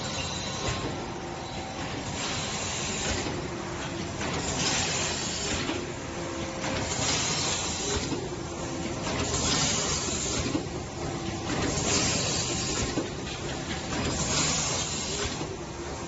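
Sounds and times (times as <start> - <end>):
packaging machine humming: 0.0 - 16.0
machine hissing: 1.8 - 3.6, 4.2 - 16.0.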